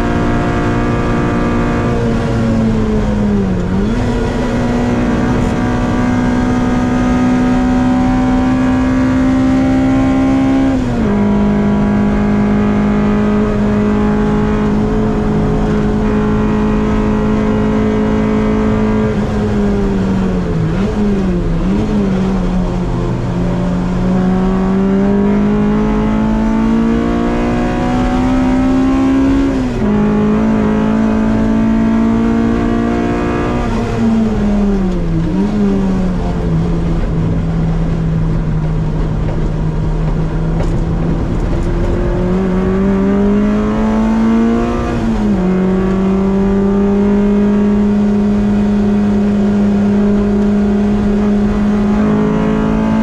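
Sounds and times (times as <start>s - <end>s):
car engine revving under hard driving: 0.0s - 53.0s.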